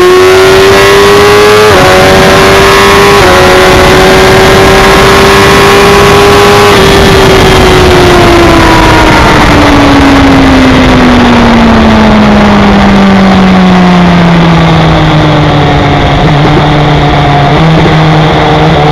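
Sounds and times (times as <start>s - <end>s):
gear downshift: 0.0s - 18.9s
motorcycle engine decelerating: 0.0s - 18.9s
wind rush on microphone: 0.0s - 18.9s.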